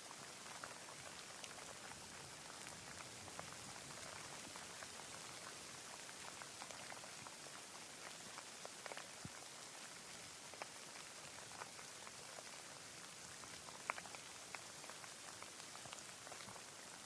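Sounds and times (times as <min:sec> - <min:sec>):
light rain hissing: 0:00.0 - 0:17.0
raindrops ticking: 0:00.1 - 0:17.0.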